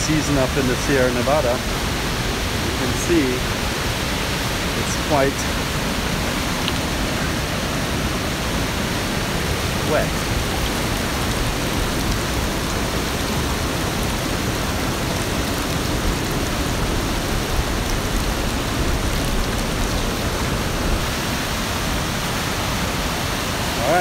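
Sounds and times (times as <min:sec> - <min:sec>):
river rapids rushing over boulders: 0:00.0 - 0:24.0.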